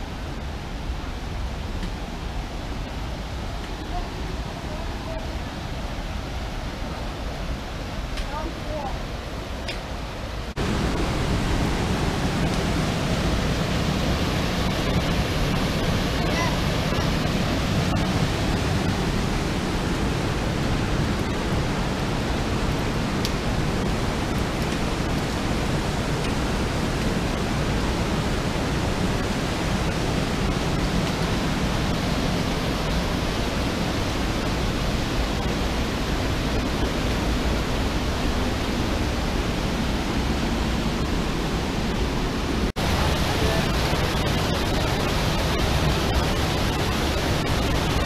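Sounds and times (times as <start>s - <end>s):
stream rushing over waterfalls: 0.0s - 48.0s.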